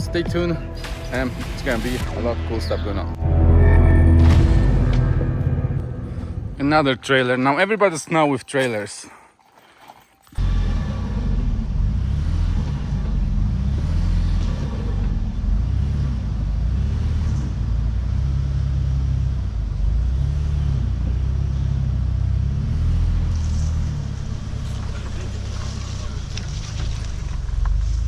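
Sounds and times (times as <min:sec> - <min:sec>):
vehicle engine rumble: 0:00.0 - 0:07.4, 0:10.4 - 0:28.0.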